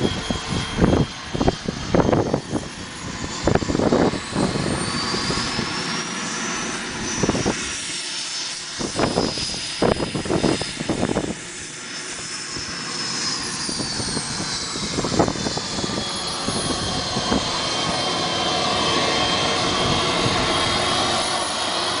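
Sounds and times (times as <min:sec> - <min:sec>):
model jet engine whining: 0:00.0 - 0:22.0.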